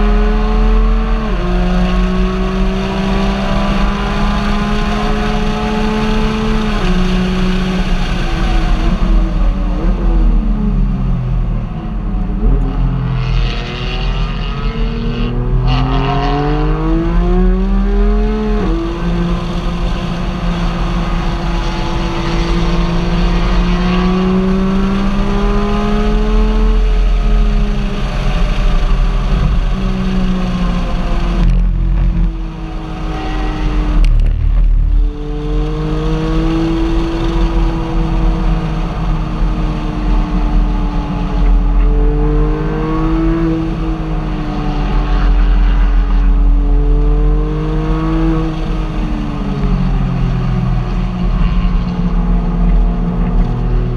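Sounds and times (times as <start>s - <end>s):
car engine accelerating: 0.0s - 53.9s
road noise rumble: 0.0s - 53.9s.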